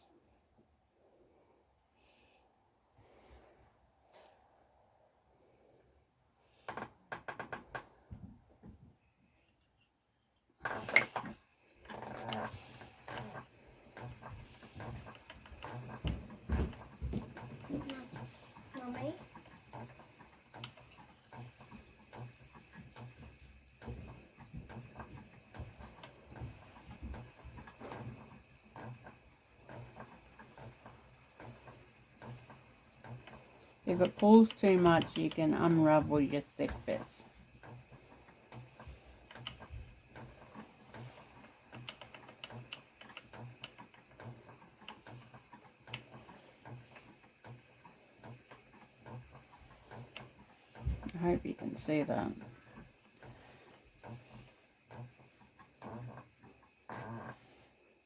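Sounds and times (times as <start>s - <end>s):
spinning wheel soft knocking: 6.5s - 9.8s, 10.6s - 58.0s.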